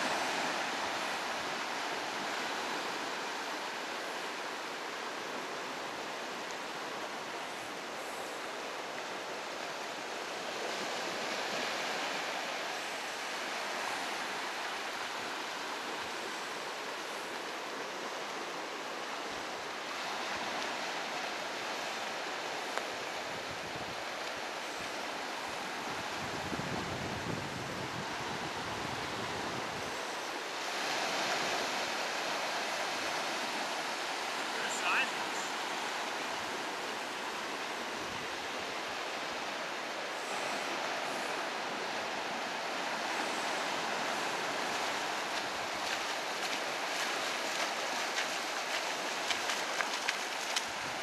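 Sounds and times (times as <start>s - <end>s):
ocean waves breaking: 0.0s - 51.0s.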